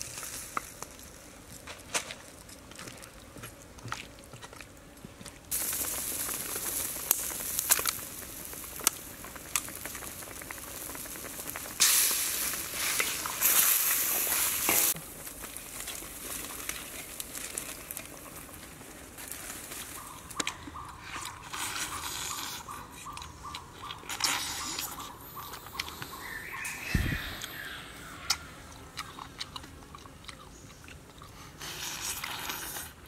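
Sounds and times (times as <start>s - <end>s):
soup boiling with pops: 0.0s - 30.2s
small crackles: 0.0s - 33.0s.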